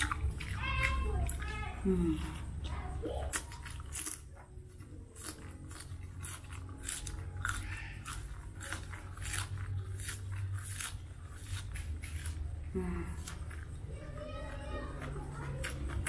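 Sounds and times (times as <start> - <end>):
crunchy chewing of leafy greens: 0.0 - 16.0.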